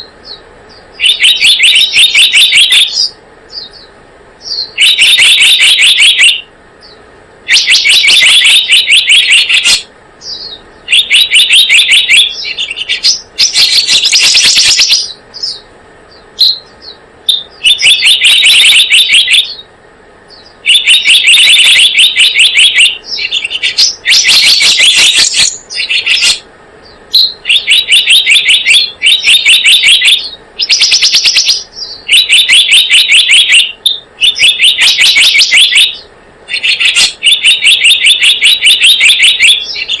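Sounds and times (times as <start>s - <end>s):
bird chirping fast high bursts: 0.0s - 40.0s.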